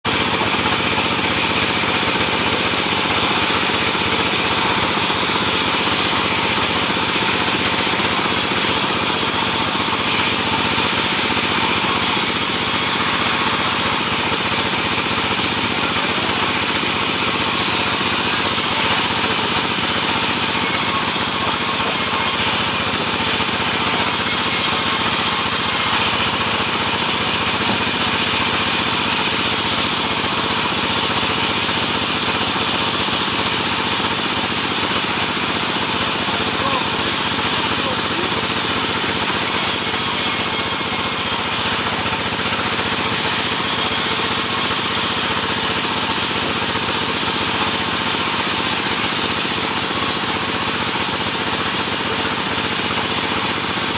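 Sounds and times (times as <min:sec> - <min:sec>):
saw cutting timber: 0:00.0 - 0:53.9.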